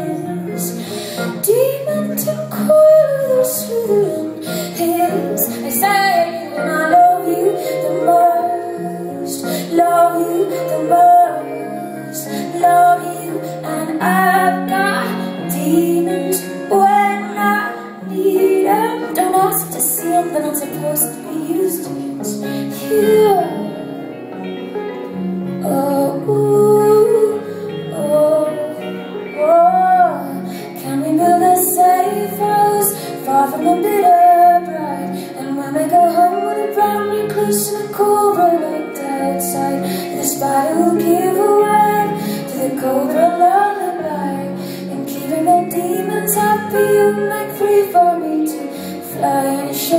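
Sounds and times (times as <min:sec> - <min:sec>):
woman singing: 0:00.0 - 0:24.6, 0:25.4 - 0:49.9
acoustic guitar: 0:00.0 - 0:49.9.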